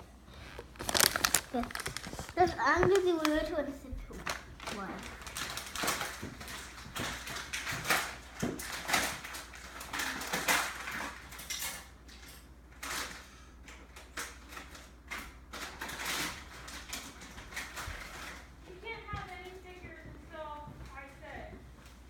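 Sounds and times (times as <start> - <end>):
plastic packaging crinkling: 0.3 - 20.0.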